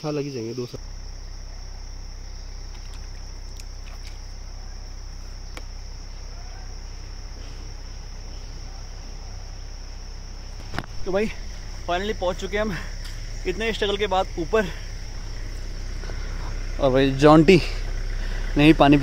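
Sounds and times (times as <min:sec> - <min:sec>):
insects chirring: 0:00.0 - 0:19.0
low background rumble: 0:00.7 - 0:19.0.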